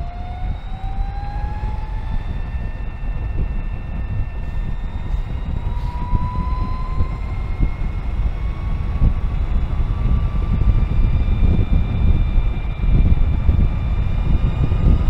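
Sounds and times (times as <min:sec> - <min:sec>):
electric motorcycle whine: 0:00.0 - 0:15.0
wind rumble on microphone: 0:00.0 - 0:15.0.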